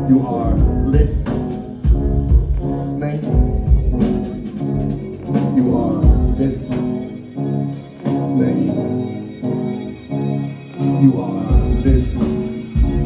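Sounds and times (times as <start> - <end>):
bass guitar: 0.0 - 13.0
drum kit: 0.0 - 13.0
keyboards: 0.0 - 13.0
rock band playing live: 0.0 - 13.0.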